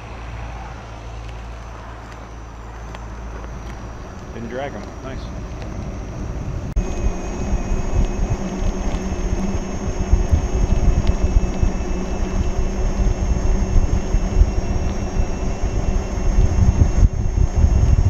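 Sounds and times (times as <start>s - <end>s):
steady low rumble: 0.0s - 18.0s
wind buffeting microphone: 0.0s - 18.0s.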